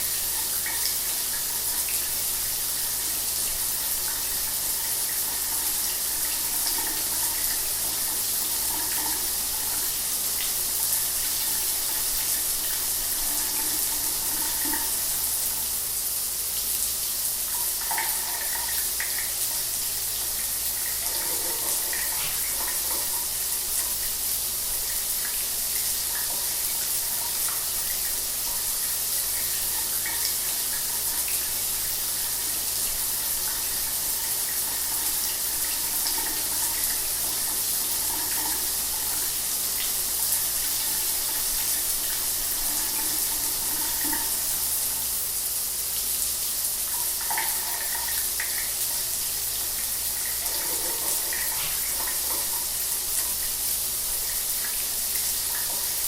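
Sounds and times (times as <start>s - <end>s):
shower water running: 0.0s - 56.0s.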